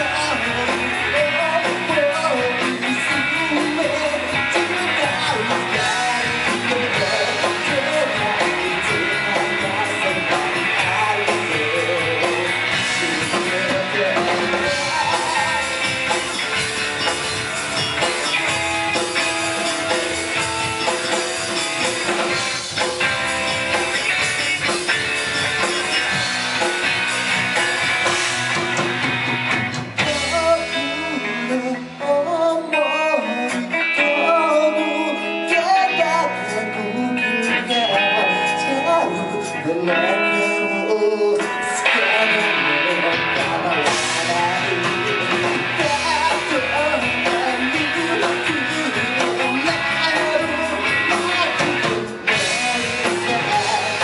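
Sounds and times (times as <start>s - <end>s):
person singing: 0.0s - 22.4s, 30.0s - 54.0s
rock band playing live: 0.0s - 54.0s
strummed guitar: 0.0s - 54.0s.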